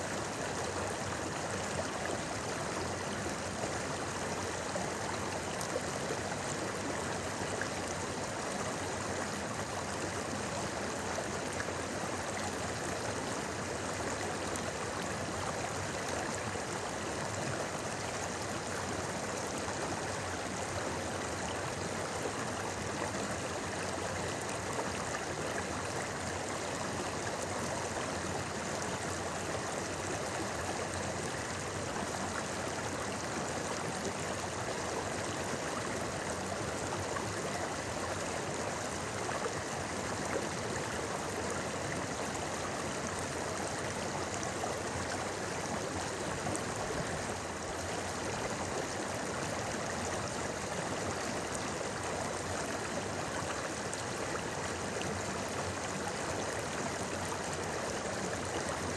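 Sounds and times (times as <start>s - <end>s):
river water babbling over rocks: 0.0s - 58.9s.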